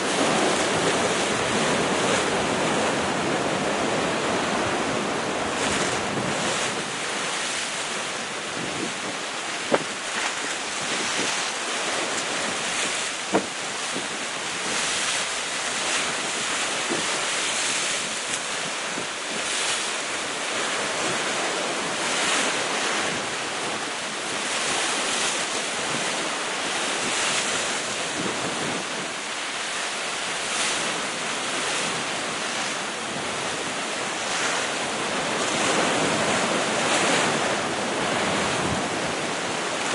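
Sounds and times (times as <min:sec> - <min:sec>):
waves breaking against rocks: 0:00.0 - 0:39.9.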